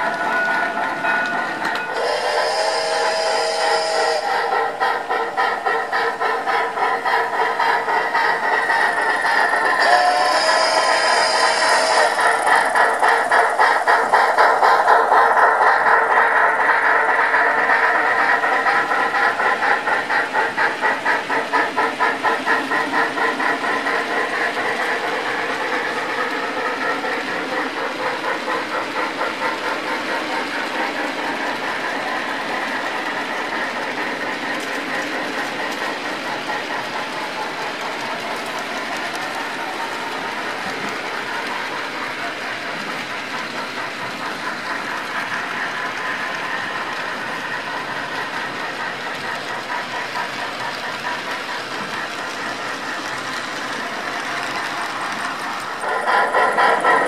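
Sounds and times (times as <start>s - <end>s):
model train wheels rolling on rails: 0.0s - 57.0s.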